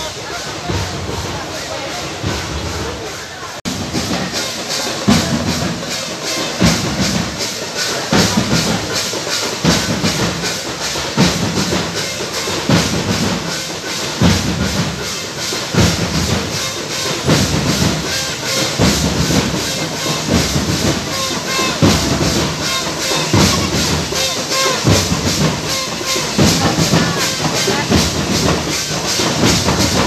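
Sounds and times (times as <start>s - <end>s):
heavy low drum beat: 0.0s - 30.0s
lighter drum beats: 0.0s - 30.0s.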